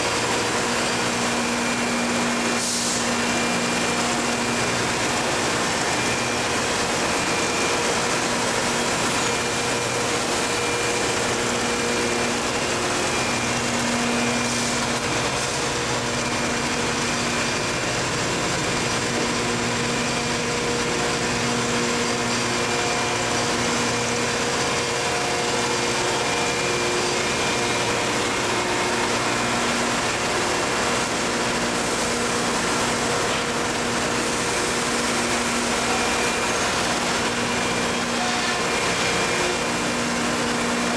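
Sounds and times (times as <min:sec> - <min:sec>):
machine hum with hiss: 0:00.0 - 0:40.9.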